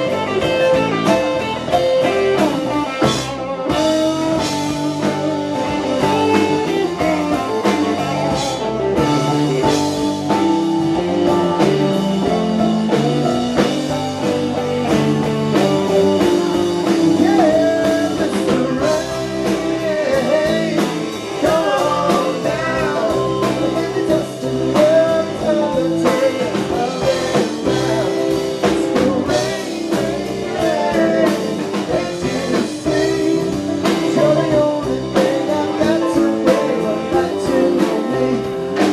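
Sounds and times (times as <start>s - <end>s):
live blues-rock band playing: 0.0s - 38.9s
voices singing: 0.0s - 38.9s.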